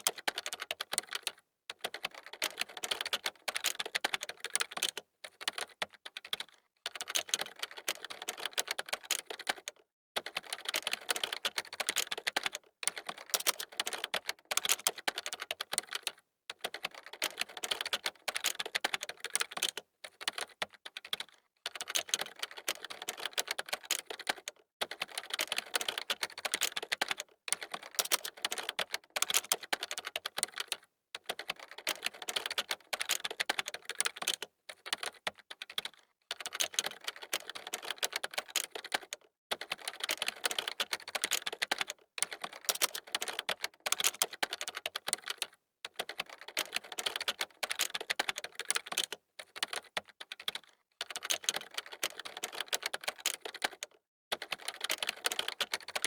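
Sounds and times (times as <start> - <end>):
fast keyboard typing: 0.0 - 56.0.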